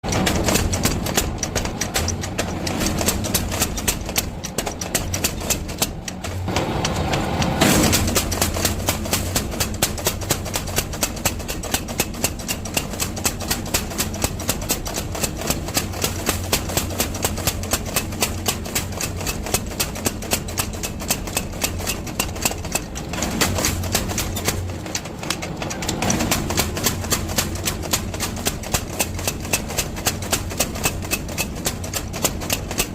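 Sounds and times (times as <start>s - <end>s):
power hammer striking: 0.0s - 32.9s.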